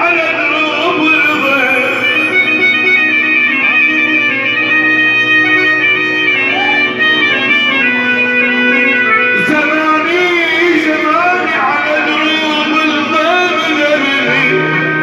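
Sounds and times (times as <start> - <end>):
live instrumental music: 0.0 - 15.0.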